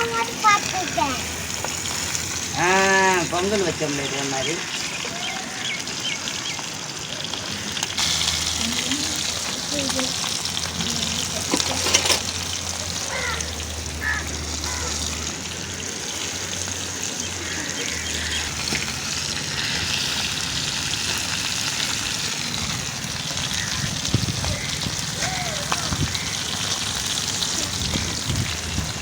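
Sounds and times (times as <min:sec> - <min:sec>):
fish sizzling in hot oil: 0:00.0 - 0:29.0
oil crackling: 0:00.0 - 0:29.0.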